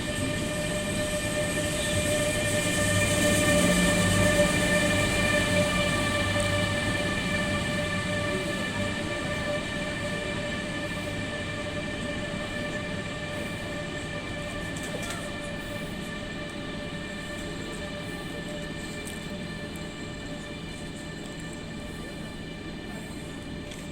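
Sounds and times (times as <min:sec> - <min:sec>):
electric train humming: 0:00.0 - 0:23.9
train rolling rumble: 0:00.0 - 0:23.9.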